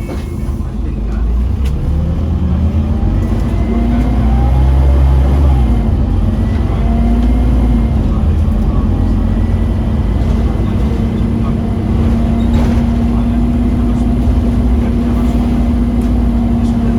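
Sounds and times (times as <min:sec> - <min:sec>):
bus engine accelerating: 0:00.0 - 0:16.9.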